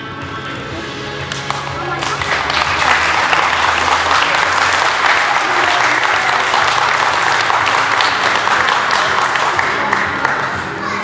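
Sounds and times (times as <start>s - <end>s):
background music: 0.0s - 11.0s
crowd applauding: 1.3s - 11.0s.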